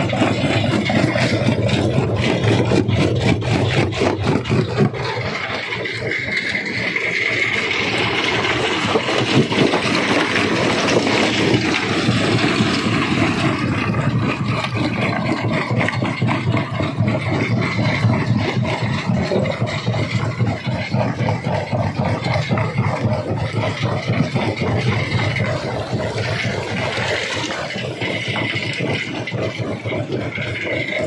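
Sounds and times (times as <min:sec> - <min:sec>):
machinery drone: 0:00.0 - 0:31.0
rock crusher crunching stone: 0:00.0 - 0:31.0.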